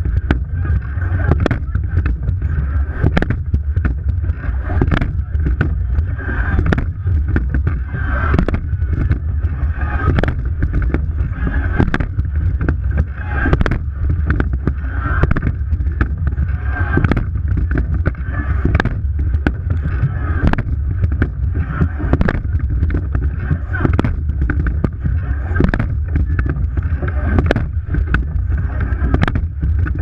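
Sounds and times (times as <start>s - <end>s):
oars knocking: 0.0s - 30.0s.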